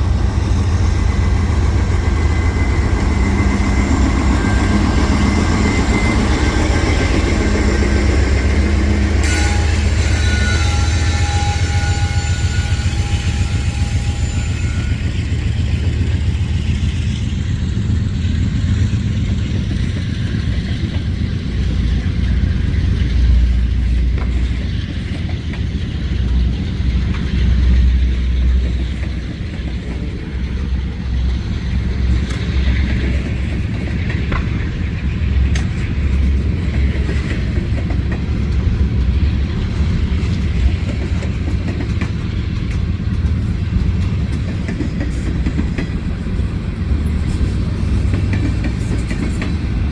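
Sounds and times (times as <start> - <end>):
train rumbling past: 0.0 - 49.9.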